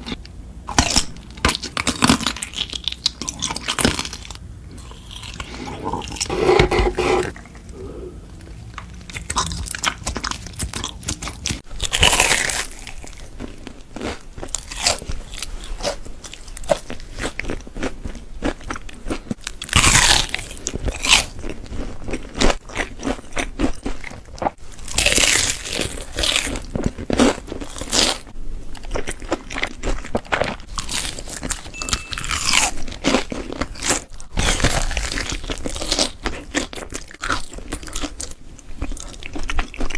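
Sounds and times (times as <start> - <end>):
crunchy bites and chewing: 0.0 - 7.5, 8.4 - 31.6, 32.2 - 39.9.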